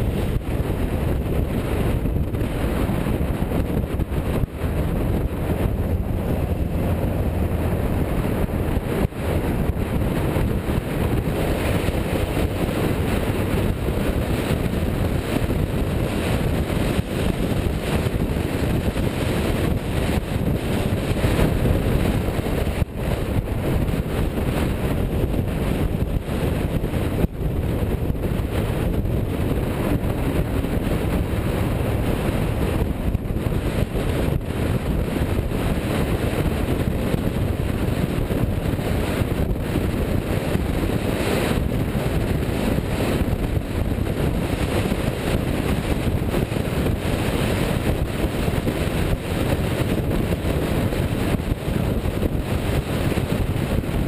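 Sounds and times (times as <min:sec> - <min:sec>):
car driving: 0:00.0 - 0:54.0
wind rumbling on microphone: 0:00.0 - 0:54.0.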